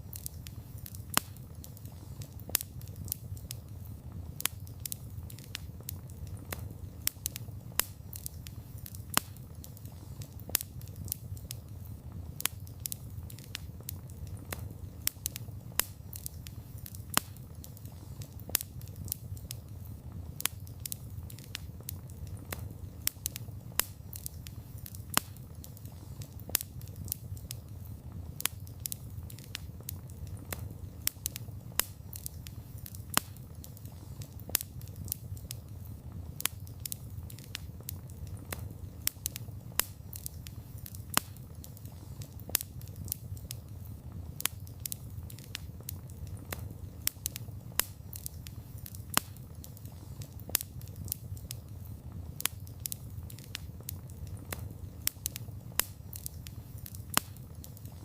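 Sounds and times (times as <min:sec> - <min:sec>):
campfire crackling: 0:00.0 - 0:58.0
low rumble of flames: 0:00.0 - 0:58.0
sharp fire pops: 0:00.0 - 0:58.0.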